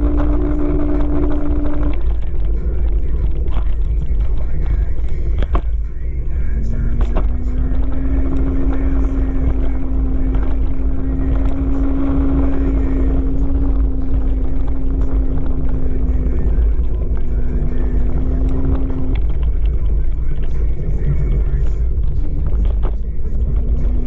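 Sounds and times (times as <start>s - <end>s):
electric motor whine: 0.0s - 24.0s
wind buffeting microphone: 0.0s - 24.0s.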